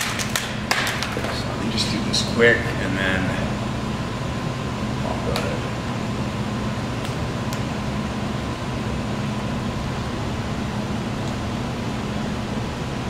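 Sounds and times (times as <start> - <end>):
fan-like mechanical hum: 0.0 - 13.0.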